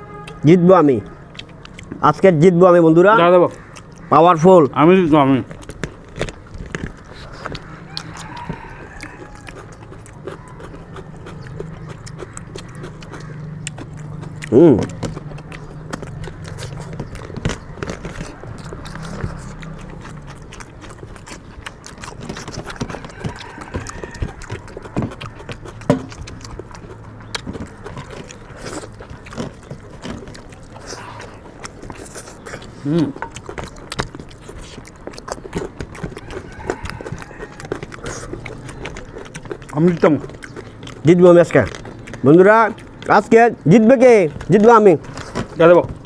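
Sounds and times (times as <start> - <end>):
people chewing food: 0.0 - 46.0.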